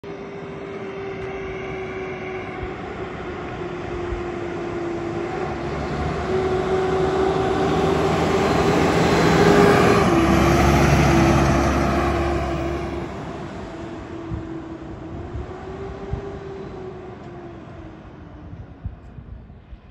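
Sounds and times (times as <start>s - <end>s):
diesel engine rumble: 0.0s - 19.9s
fire engine whine: 0.0s - 19.9s.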